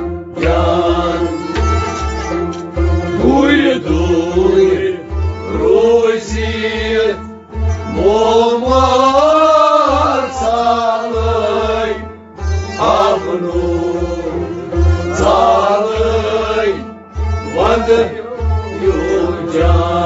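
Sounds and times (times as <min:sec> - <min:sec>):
bowed string instrument: 0:00.0 - 0:20.0
harmonium: 0:00.0 - 0:20.0
rabab: 0:00.0 - 0:20.0
man singing: 0:00.4 - 0:01.8, 0:03.1 - 0:12.1, 0:12.8 - 0:20.0.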